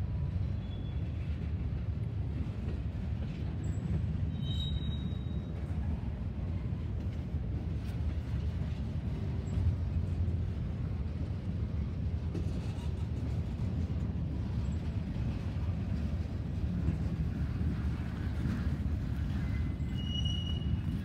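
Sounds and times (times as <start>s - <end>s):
freight train rumbling on rails: 0.0s - 21.0s.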